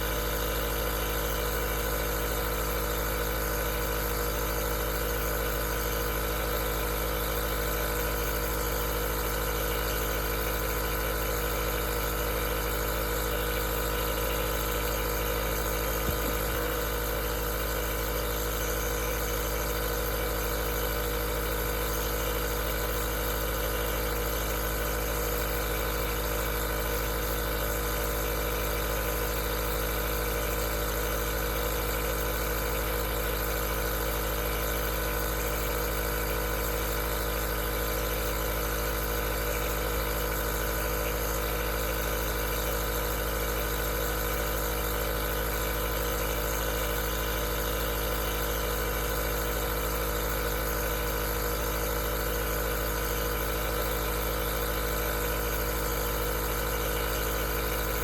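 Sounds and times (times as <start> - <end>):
nebulizer motor humming: 0.0 - 58.0.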